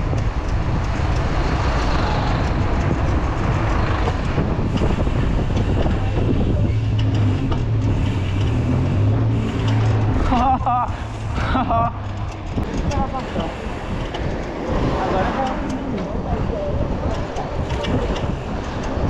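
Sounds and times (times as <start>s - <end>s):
motor vehicle engine hum: 0.0s - 19.0s
road and wind noise: 0.0s - 19.0s.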